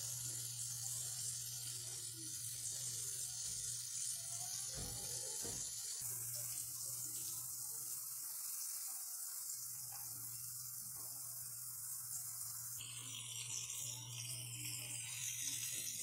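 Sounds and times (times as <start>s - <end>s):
oil sizzling in a wok: 0.0s - 16.0s.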